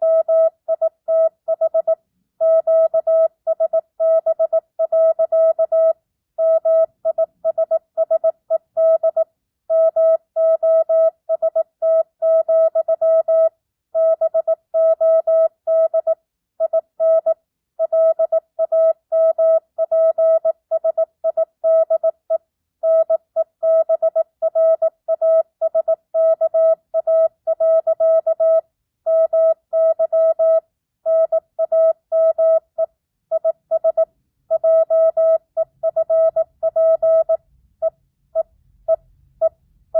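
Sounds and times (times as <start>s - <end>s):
morse code beeps: 0.0s - 39.6s.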